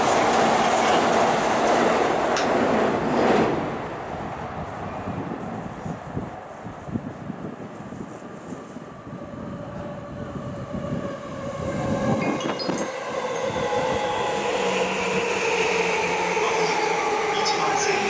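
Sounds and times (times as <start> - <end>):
electric train rumbling: 0.0 - 18.0
steady train whine: 0.0 - 18.0.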